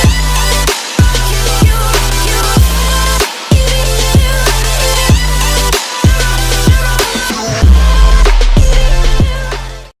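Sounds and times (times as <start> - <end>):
electronic music with heavy bass: 0.0 - 9.9.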